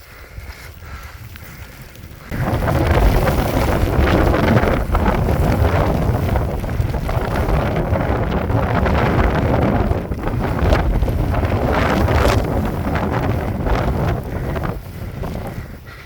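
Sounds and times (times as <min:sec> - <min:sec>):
blizzard wind buffeting microphone: 0:00.0 - 0:16.0.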